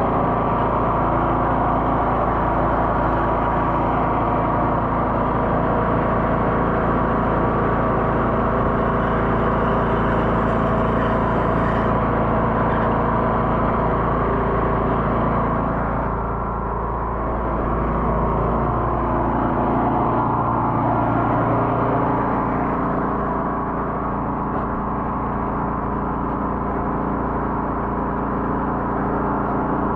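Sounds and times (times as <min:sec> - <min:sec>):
drain jetter engine running: 0:00.0 - 0:29.9.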